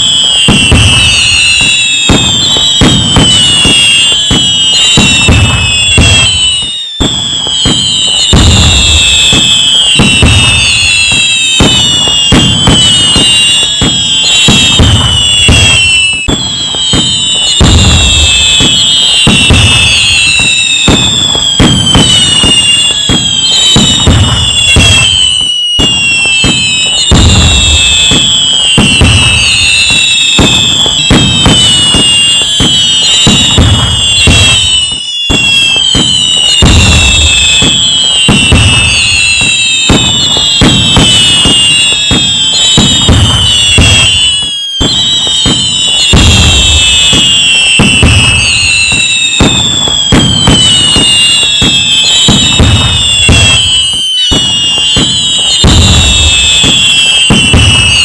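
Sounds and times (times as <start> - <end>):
fireworks crackling bangs: 0.0 - 58.0
fireworks whistling: 0.0 - 58.0.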